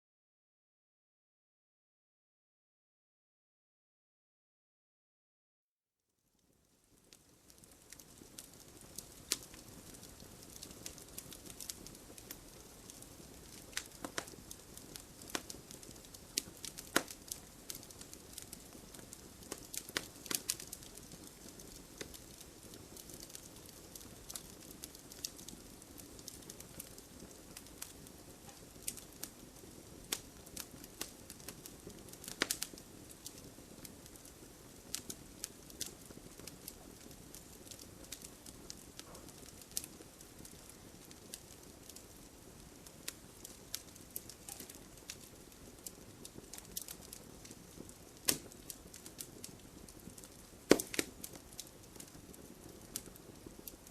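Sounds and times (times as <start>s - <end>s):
fire crackling and popping: 6.4s - 53.9s
low rumble of flames: 6.4s - 53.9s.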